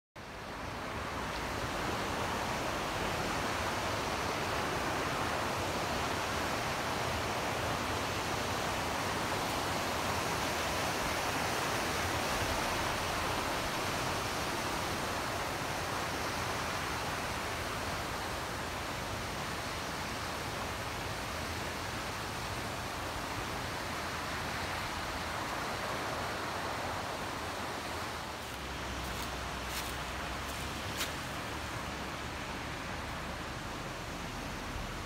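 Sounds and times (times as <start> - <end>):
car road and tyre noise: 0.2 - 35.0.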